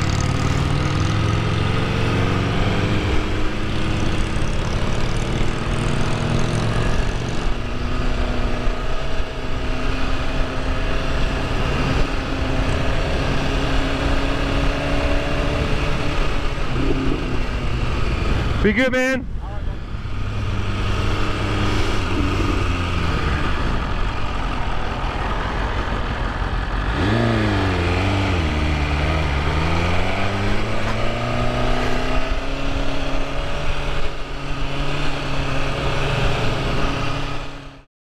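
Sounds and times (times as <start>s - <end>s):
motorcycle engine revving: 0.0s - 18.7s, 19.6s - 37.9s
wind noise: 0.0s - 37.4s.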